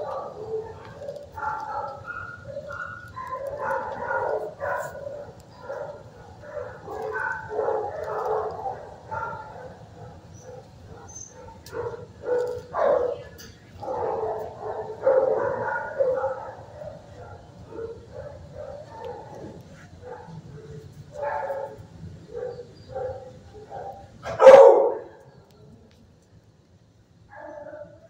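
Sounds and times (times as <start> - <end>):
many dogs barking: 0.0 - 25.6, 27.3 - 28.0.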